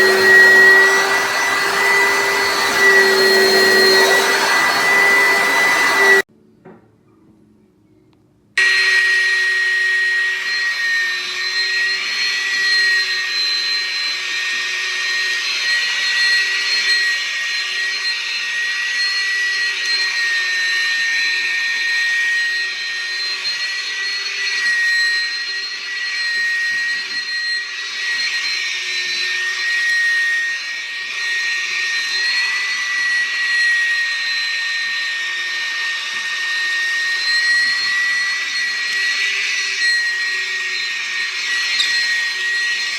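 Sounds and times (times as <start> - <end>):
vacuum cleaner running: 0.0 - 6.3, 8.6 - 42.9.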